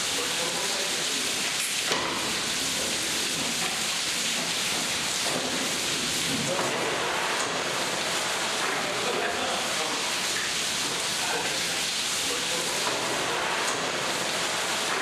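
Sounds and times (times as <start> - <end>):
running water hiss: 0.0 - 15.0.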